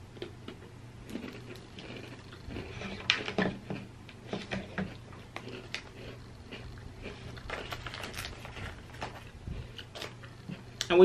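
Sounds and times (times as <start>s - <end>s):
faint low hum: 0.0s - 11.0s
snack crunching and chewing: 0.2s - 10.9s.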